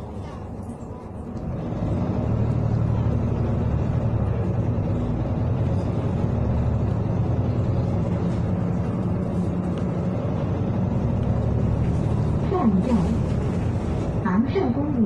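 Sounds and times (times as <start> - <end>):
bus engine droning: 0.0 - 15.0
road noise: 0.0 - 15.0.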